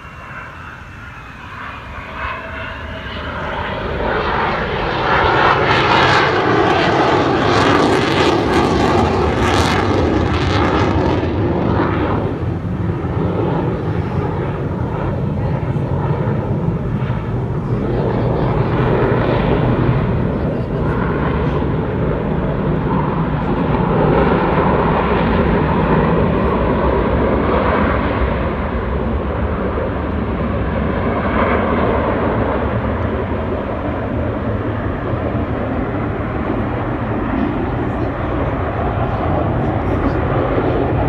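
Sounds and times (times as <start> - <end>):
aircraft engine rushing: 0.0 - 41.0.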